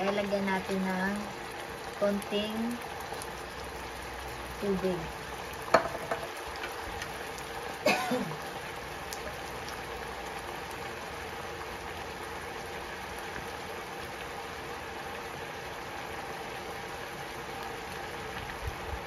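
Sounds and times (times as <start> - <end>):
pork simmering with bubbling hiss: 0.0 - 19.0.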